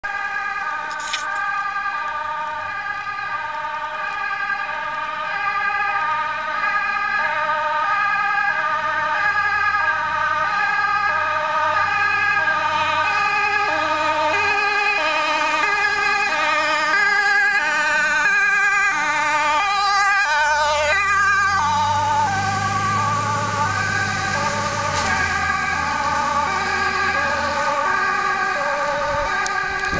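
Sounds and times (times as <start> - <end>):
fire engine engine: 0.0 - 29.9
fire engine two-tone siren: 0.0 - 29.9.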